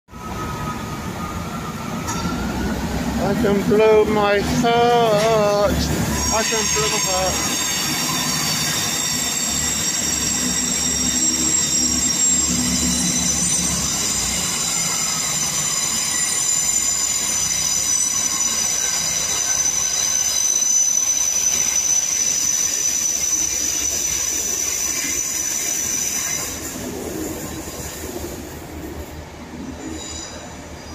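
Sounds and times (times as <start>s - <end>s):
train engine rumble: 0.1s - 30.9s
train wheels squealing on track: 0.1s - 30.9s.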